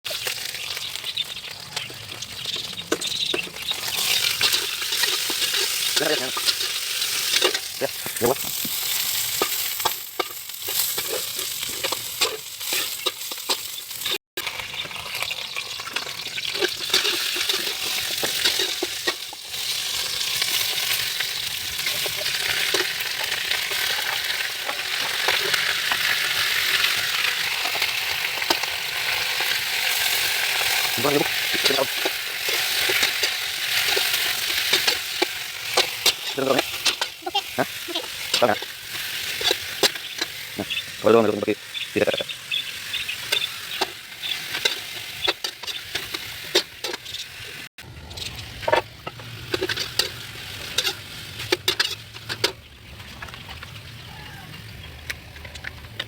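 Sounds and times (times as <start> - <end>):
food sizzling in hot oil: 0.0 - 56.0
utensil scraping a pan: 1.8 - 14.2, 15.9 - 41.0, 42.7 - 53.7.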